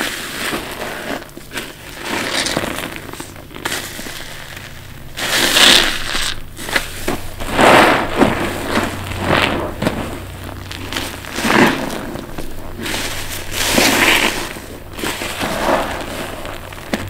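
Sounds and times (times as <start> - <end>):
soapy sponge squelching: 0.0 - 17.0.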